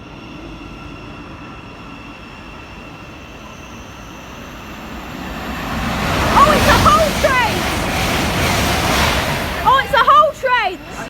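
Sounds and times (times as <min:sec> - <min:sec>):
high steady train tones: 0:00.0 - 0:11.0
train rumble: 0:00.0 - 0:11.0.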